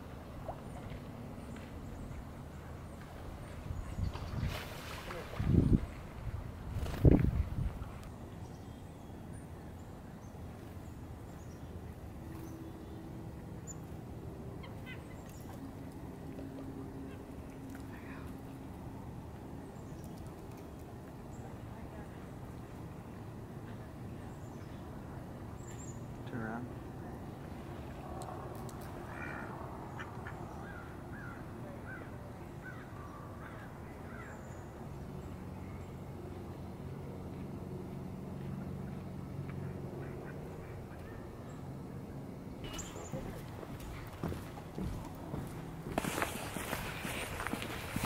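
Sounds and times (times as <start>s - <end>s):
songbirds chirping: 0.0s - 7.0s, 7.8s - 48.0s.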